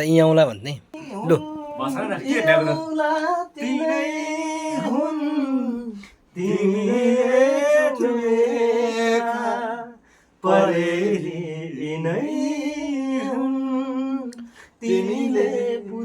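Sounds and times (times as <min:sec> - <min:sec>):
person singing unaccompanied: 0:00.8 - 0:16.0.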